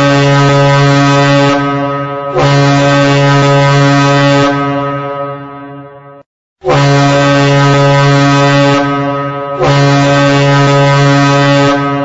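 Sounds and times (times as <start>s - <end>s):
buzzy alarm tone blasts: 0.0s - 12.0s.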